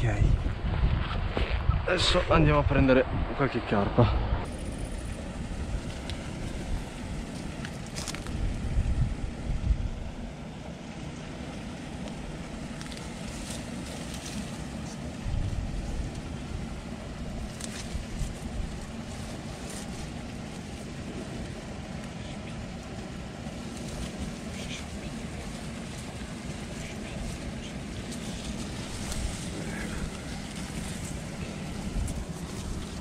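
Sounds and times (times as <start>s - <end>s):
wind rumble on microphone: 0.0s - 21.7s, 22.5s - 33.0s
rustling grass and reeds: 4.5s - 33.0s.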